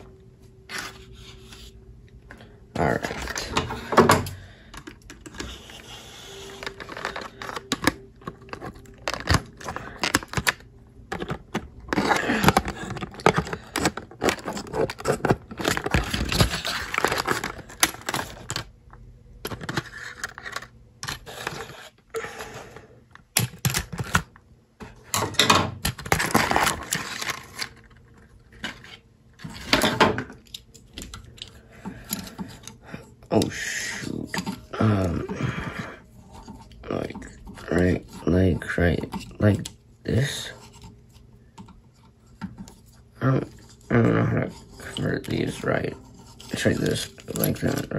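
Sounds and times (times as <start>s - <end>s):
plastic packaging clicking and rustling: 2.4s - 22.0s, 23.1s - 43.9s, 44.6s - 47.9s.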